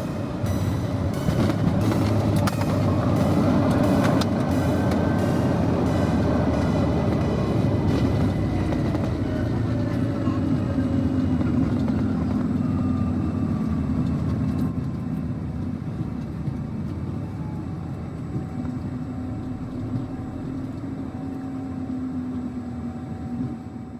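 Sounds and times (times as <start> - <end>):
jet engine cabin rumble: 0.0 - 23.9.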